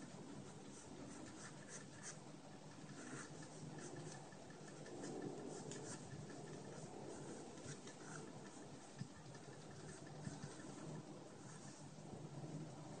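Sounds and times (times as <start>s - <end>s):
low steady hum: 0.0s - 13.0s
pencil scratching on paper: 0.4s - 11.9s.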